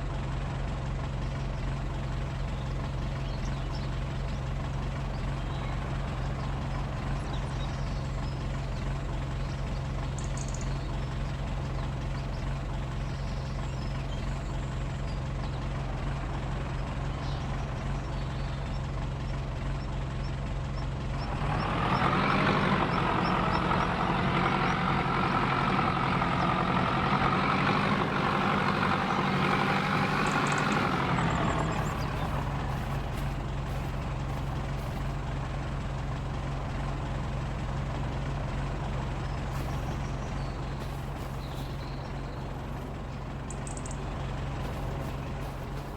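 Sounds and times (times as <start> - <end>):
farm machinery engine droning: 0.0 - 45.9.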